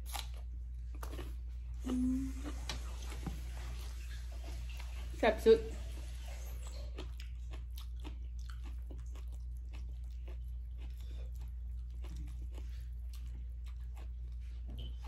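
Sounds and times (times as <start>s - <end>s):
chewing and crunching food: 0.0s - 15.0s
low hum: 0.0s - 15.0s.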